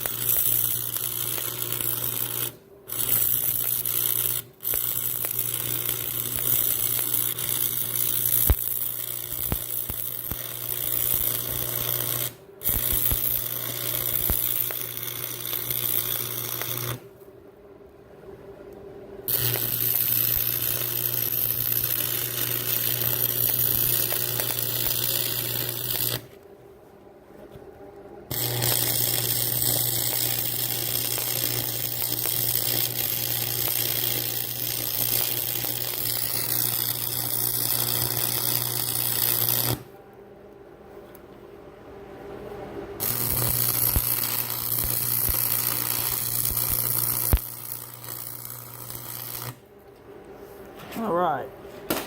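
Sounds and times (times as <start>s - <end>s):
welding arc crackling: 0.0s - 17.1s, 19.3s - 26.4s, 28.3s - 39.9s, 43.0s - 49.7s.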